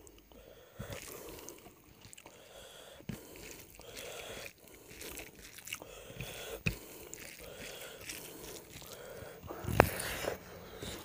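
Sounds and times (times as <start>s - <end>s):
man chewing food: 0.0s - 11.0s.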